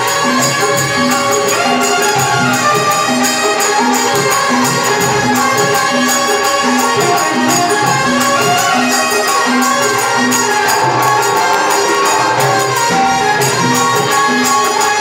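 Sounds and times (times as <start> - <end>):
electronic keyboard melody: 0.0 - 15.0
hand drum steady rhythm: 0.0 - 15.0
harmonium melody: 0.0 - 15.0
jingling hand percussion: 0.0 - 15.0.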